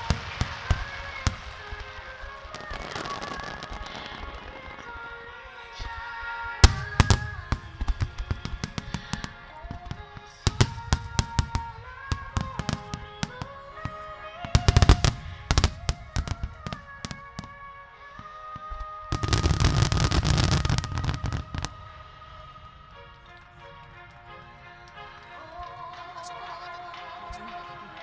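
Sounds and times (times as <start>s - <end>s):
fireworks bursting with sharp bangs: 0.0s - 28.0s
slow sustained music: 0.0s - 28.0s.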